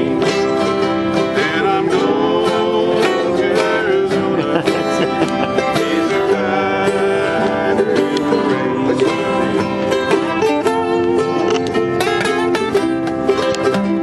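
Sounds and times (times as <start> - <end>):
bluegrass plucked string instrumental: 0.0 - 14.0.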